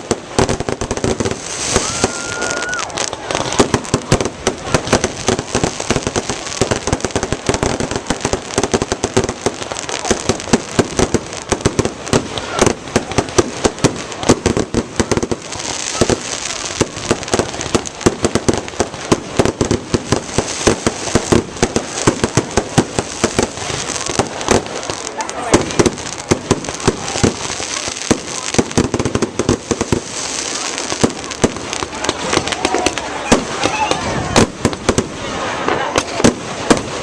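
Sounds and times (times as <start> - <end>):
fireworks bangs and crackles: 0.0 - 37.0
hissing crackling wash: 0.0 - 37.0.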